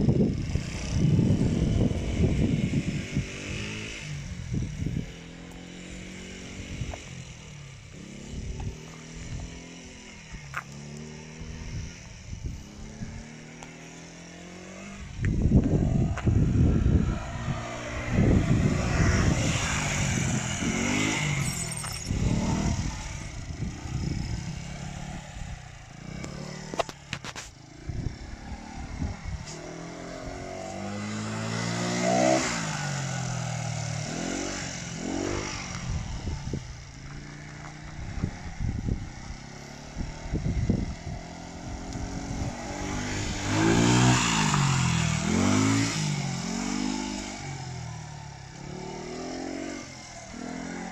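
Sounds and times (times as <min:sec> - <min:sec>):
scooter engine revving: 0:00.0 - 0:50.9.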